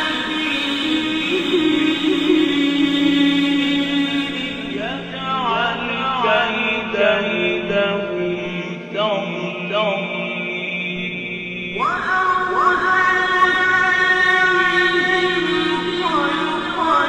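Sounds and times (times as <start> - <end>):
steady held drone: 0.0 - 17.0.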